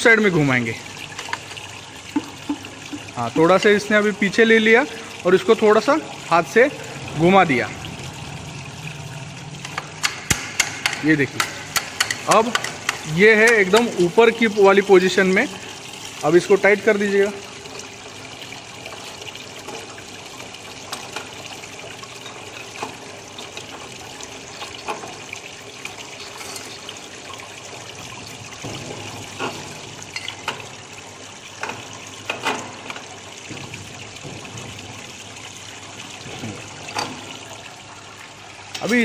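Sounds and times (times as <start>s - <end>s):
water streaming and splashing: 0.0s - 39.0s.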